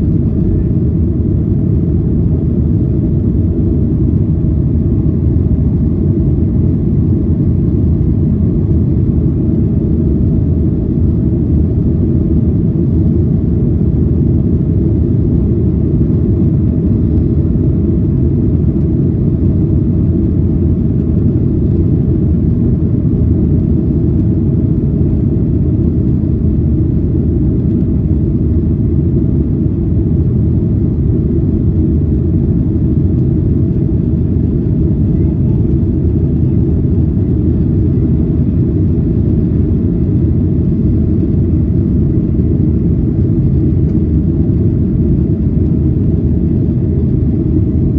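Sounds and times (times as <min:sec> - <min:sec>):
airliner low rumble: 0:00.0 - 0:47.9.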